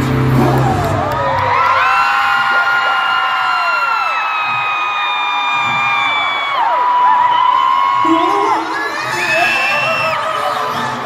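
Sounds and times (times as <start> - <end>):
crowd screaming and cheering: 0.0 - 11.0.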